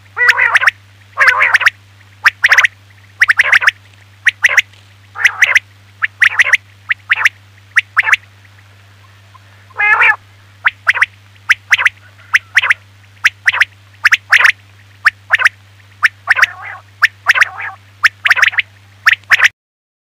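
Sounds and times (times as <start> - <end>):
steady low hum: 0.0 - 19.5
quail calls: 0.2 - 19.5.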